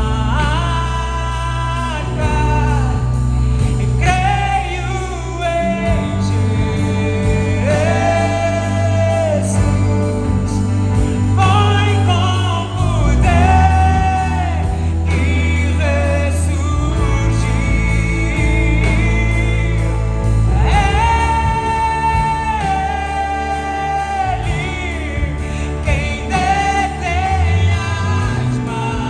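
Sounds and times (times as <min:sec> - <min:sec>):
band playing: 0:00.0 - 0:29.0
people singing: 0:00.0 - 0:29.0.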